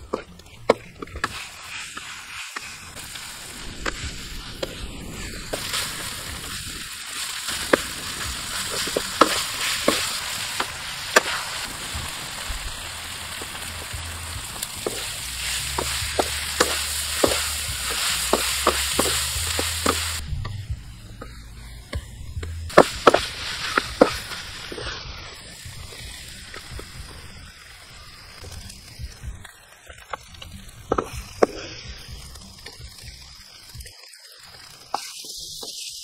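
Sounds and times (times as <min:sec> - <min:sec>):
food sizzling in a wok: 0:00.0 - 0:36.0.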